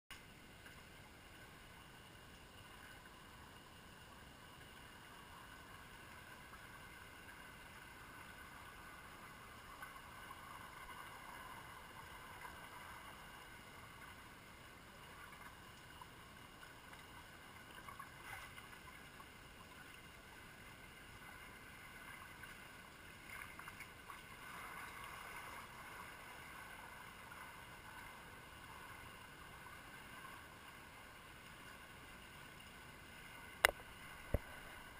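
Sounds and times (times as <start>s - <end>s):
water noise swells: 0.1s - 34.9s.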